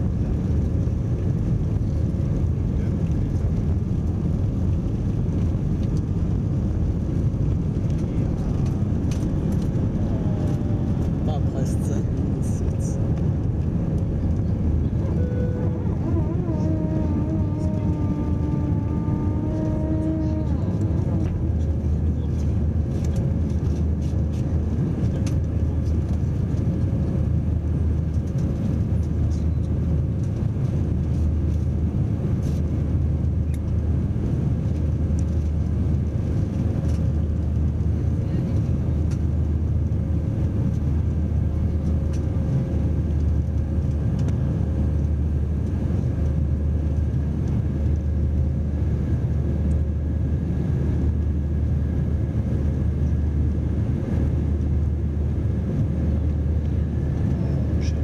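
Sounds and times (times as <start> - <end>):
faint steady whine: 0.0 - 58.0
jet engine drone in cabin: 0.0 - 58.0.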